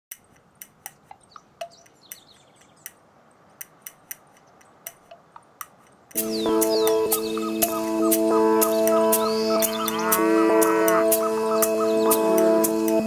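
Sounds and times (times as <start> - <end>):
birds chirping: 0.1 - 13.0
faint outdoor hiss: 0.1 - 13.0.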